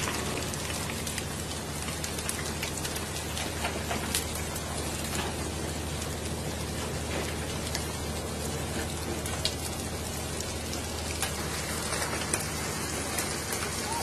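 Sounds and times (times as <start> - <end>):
water pattering on hard surface: 0.0 - 14.0.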